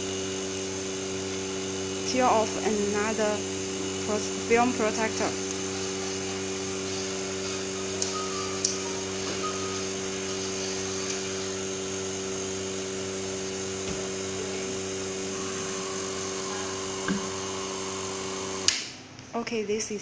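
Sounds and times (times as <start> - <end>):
electric vacuum pump humming: 0.0 - 19.0.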